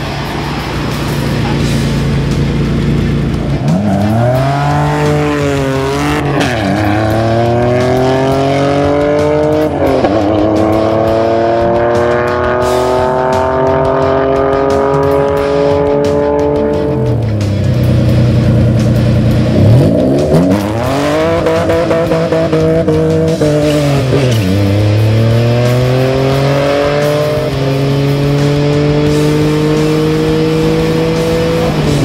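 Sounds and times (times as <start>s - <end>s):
car engine accelerating hard: 0.0s - 32.0s.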